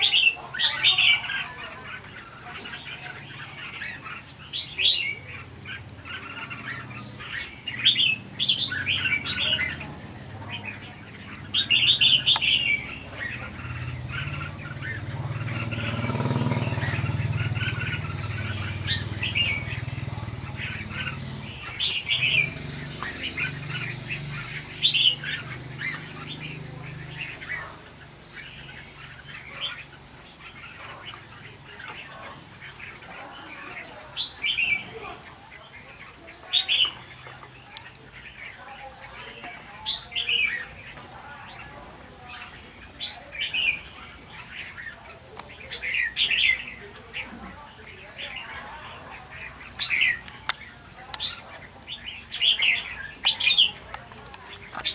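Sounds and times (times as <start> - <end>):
birds chirping sharply: 0.0 - 54.9.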